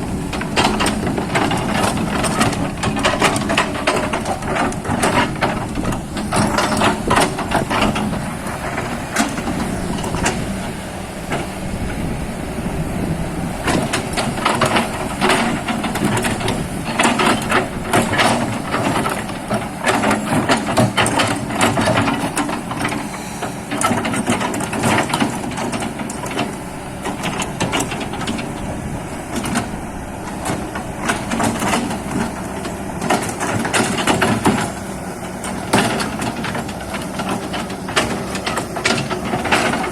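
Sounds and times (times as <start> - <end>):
machine clanks and knocks: 0.0 - 12.1, 13.5 - 39.9
excavator diesel engine droning: 0.0 - 39.9.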